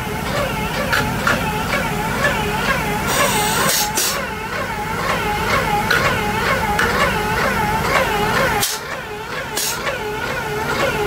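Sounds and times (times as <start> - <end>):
warbling machine whine: 0.0 - 11.0.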